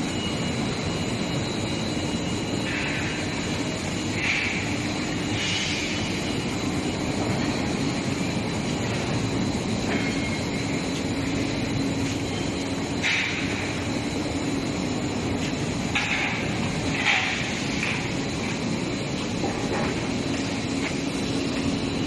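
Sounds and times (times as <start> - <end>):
faint high whine: 0.0 - 22.0
industrial machine hum: 0.0 - 22.0.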